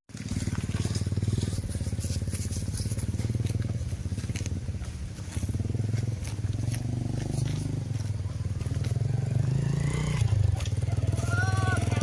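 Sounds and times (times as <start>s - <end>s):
small engine chugging: 0.1s - 12.0s.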